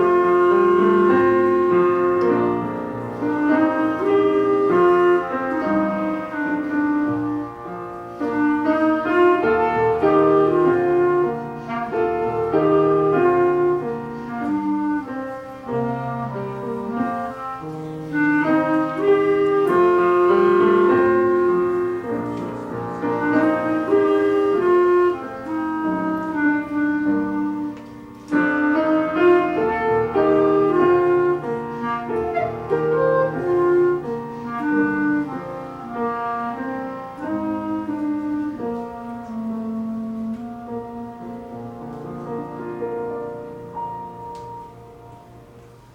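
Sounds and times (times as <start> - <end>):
clarinet melody: 0.0 - 45.9
piano accompaniment: 0.0 - 45.9.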